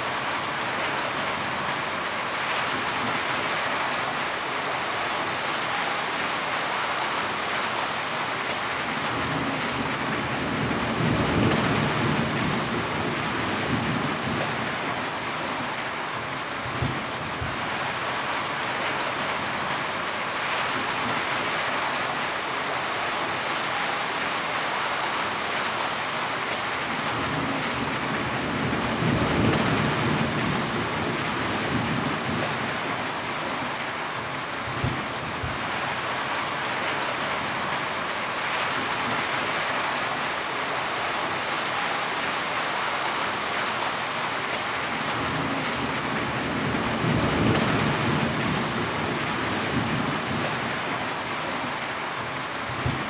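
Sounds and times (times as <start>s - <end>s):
heavy rainfall: 0.0s - 53.0s.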